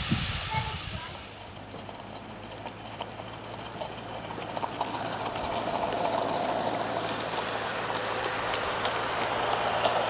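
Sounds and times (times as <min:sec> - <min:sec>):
model steam train passing: 0:00.0 - 0:10.0
wheels clicking over track: 0:01.0 - 0:10.0.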